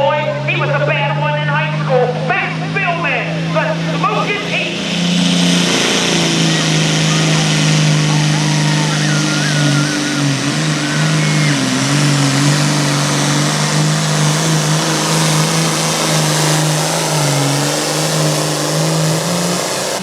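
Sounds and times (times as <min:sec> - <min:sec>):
tractor engine at high revs: 0:00.0 - 0:20.0.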